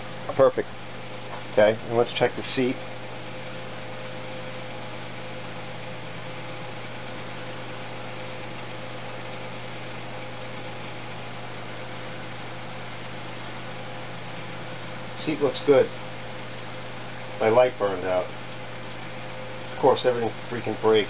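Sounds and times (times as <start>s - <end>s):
low hum with hiss: 0.0s - 21.0s.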